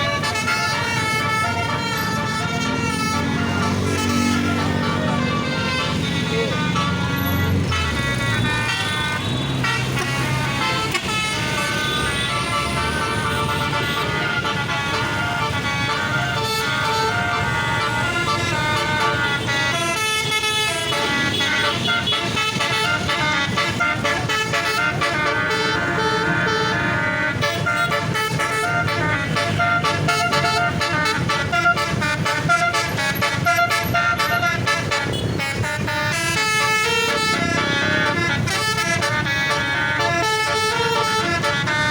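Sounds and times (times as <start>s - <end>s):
multi-tone air horn melody: 0.0s - 41.9s.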